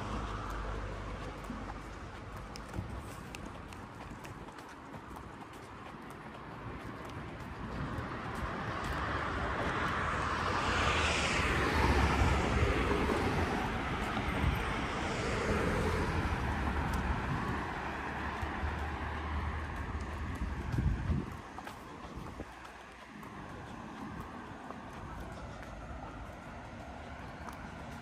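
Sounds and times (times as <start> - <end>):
cars passing: 0.0 - 28.0
steady low traffic rumble: 0.0 - 28.0.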